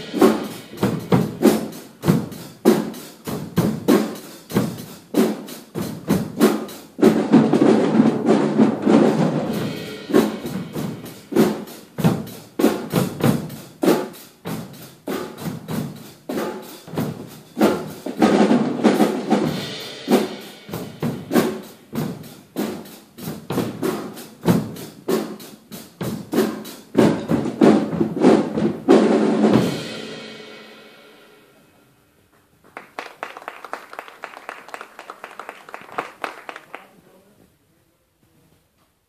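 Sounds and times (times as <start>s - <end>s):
drums and cymbals played: 0.0s - 31.7s.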